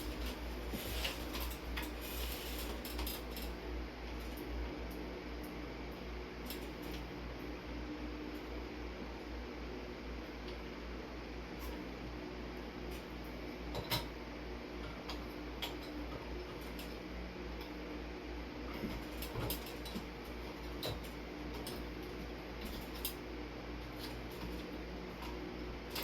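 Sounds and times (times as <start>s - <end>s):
electric fan humming: 0.0s - 26.0s.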